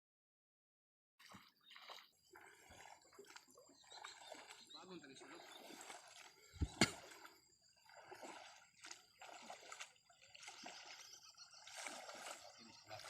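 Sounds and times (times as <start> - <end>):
floodwater splashing: 1.2 - 13.0.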